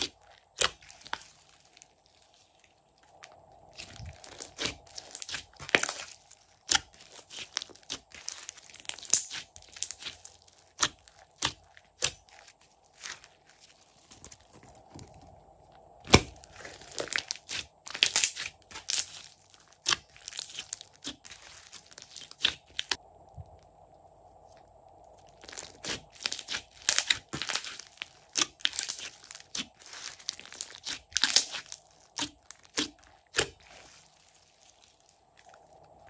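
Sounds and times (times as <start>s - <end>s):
slime crackling and squelching: 0.0s - 23.7s, 24.3s - 36.0s.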